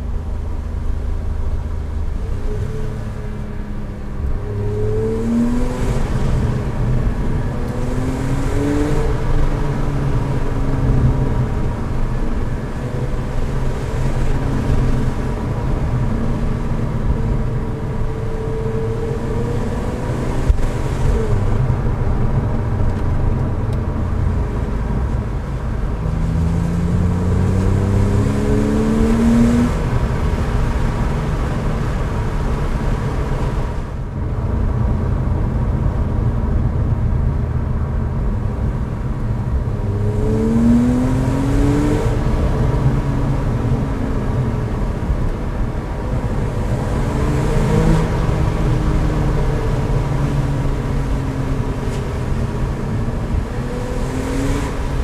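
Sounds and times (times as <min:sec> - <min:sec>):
car engine accelerating: 0:00.0 - 0:55.0
road noise: 0:00.0 - 0:55.0.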